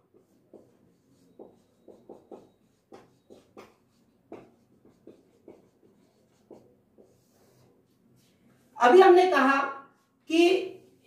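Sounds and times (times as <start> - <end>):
marker pen writing on whiteboard: 0.0 - 9.1.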